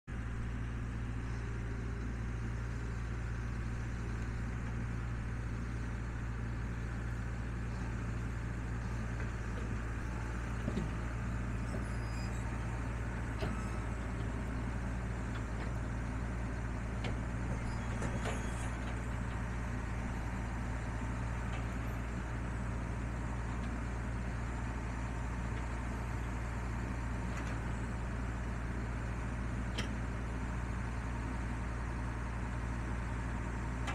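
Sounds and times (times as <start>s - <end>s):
diesel tractor engine running: 0.1s - 33.9s.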